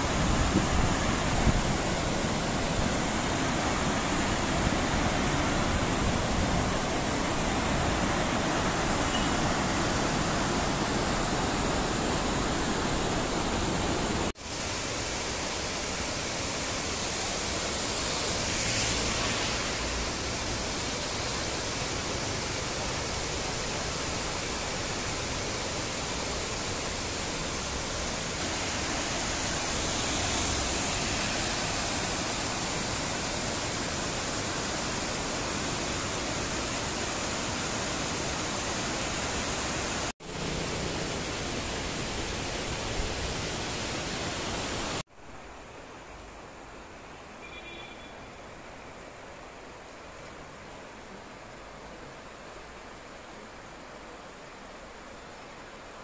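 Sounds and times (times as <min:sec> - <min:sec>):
waterfall rushing over rock: 0:00.0 - 0:45.1.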